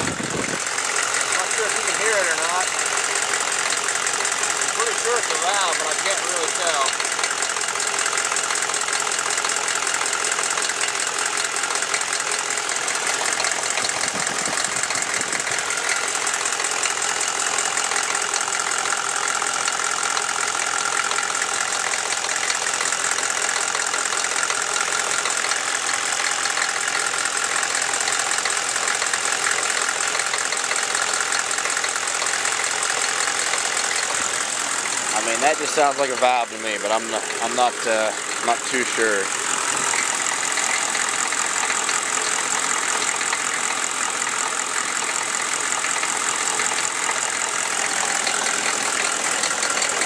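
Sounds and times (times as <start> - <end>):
diesel engine idling with knocking: 0.0 - 50.0.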